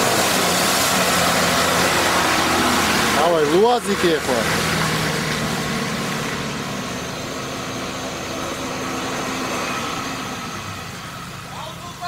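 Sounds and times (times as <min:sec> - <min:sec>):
vehicle engine at low revs: 0:00.0 - 0:12.0.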